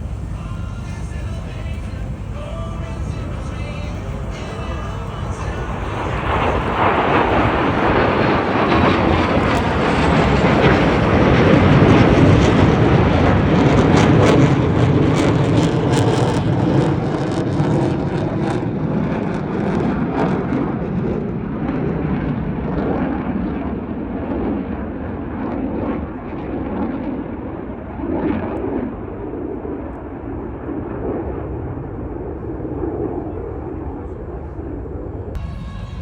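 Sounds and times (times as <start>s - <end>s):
jet engine rumble: 0.0s - 36.0s.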